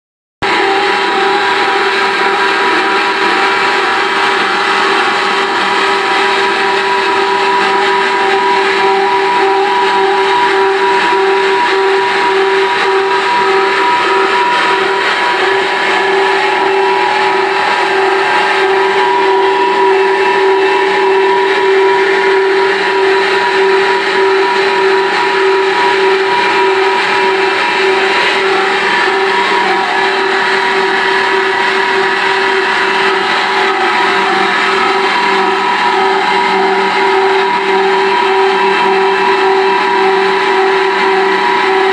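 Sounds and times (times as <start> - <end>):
turbine generator whine: 0.4 - 41.9.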